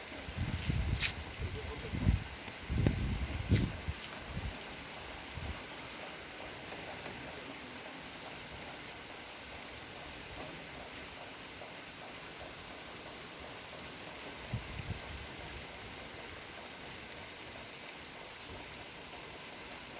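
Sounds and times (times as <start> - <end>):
rain falling: 0.0 - 19.9.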